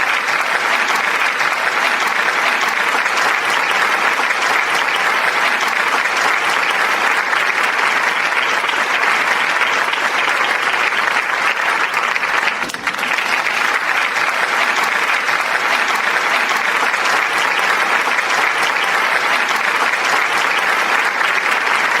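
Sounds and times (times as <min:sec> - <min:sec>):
crowd applause: 0:00.0 - 0:22.0.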